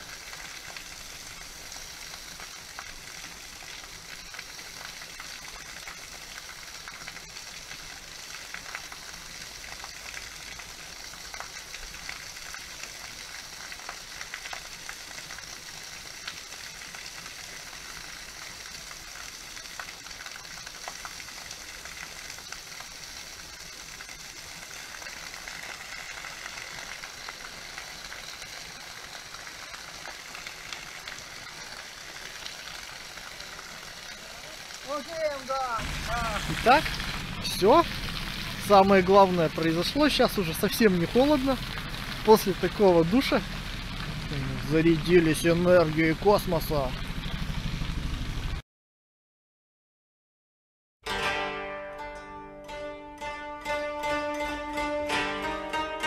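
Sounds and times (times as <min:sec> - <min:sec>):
small waterfall splashing on rock: 0:00.0 - 0:48.6.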